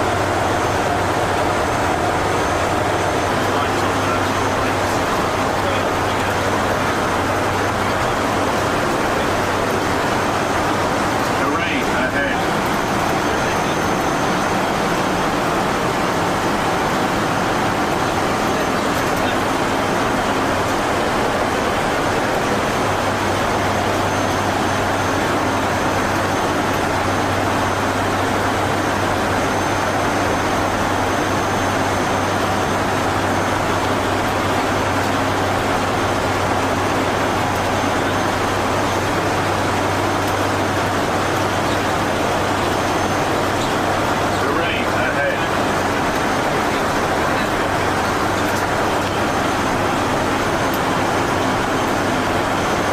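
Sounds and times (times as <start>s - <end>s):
turboprop engines droning: 0.0s - 52.9s.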